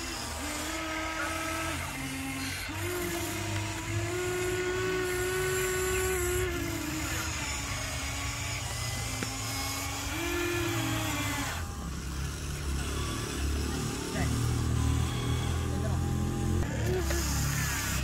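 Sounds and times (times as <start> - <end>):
small electric motors whining: 0.0 - 18.0.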